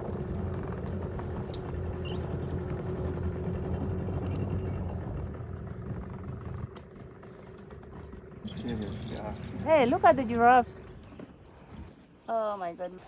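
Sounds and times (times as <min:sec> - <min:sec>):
outboard motor drone: 0:00.0 - 0:13.0.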